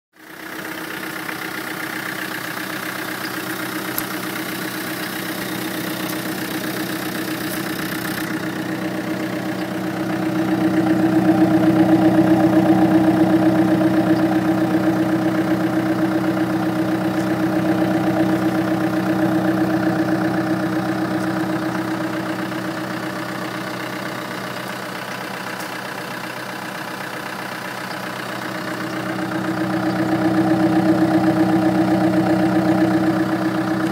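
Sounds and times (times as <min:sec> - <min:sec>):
diesel engine idling: 0:00.2 - 0:33.9
engine intake noise: 0:00.5 - 0:33.9.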